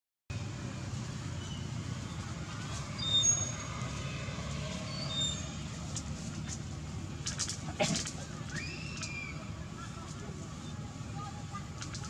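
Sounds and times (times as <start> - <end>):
engine humming: 0.3 - 12.0.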